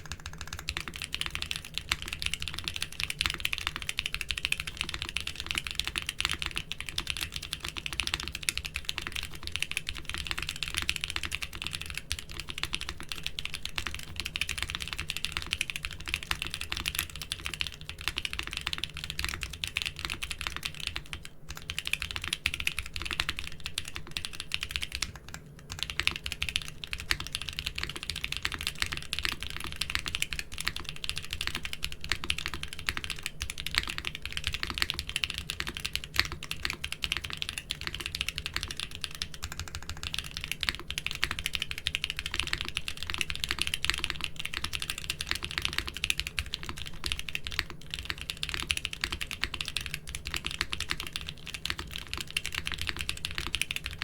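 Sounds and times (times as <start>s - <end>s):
fast mechanical keyboard typing: 0.0s - 54.0s.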